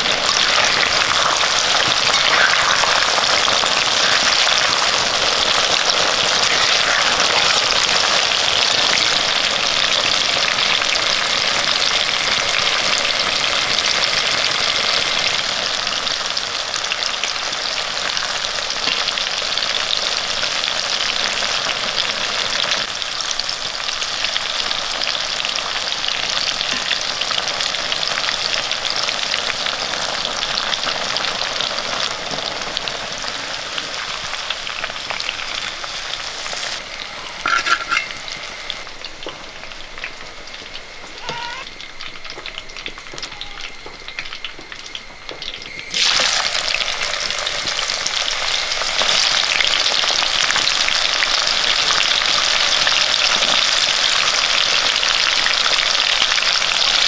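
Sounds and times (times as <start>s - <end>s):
fruit slices sizzling in oil: 0.0s - 57.0s.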